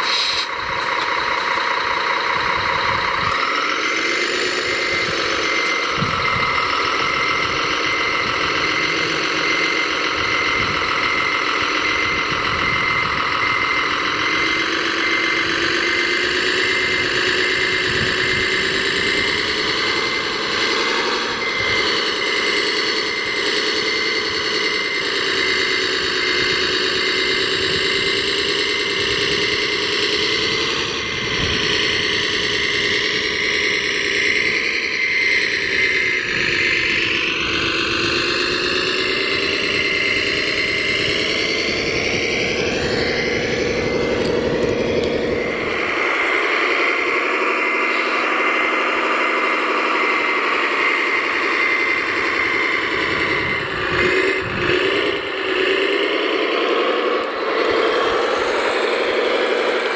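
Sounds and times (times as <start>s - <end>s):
radio-controlled models whining: 0.0s - 59.9s.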